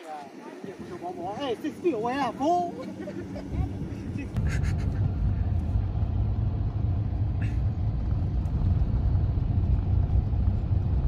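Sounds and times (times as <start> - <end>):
engine and tyre rumble: 0.3 - 11.0.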